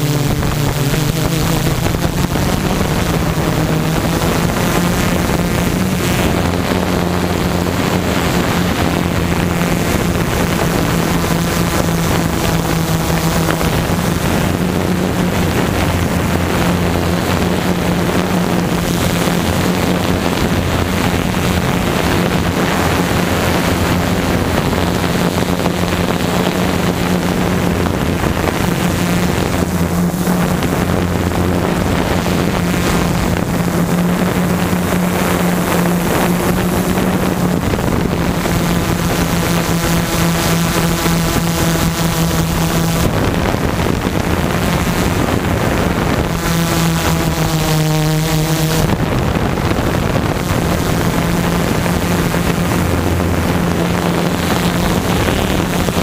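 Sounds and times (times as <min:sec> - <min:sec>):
drone motors humming: 0:00.0 - 0:56.0
wind noise on microphone: 0:00.0 - 0:56.0.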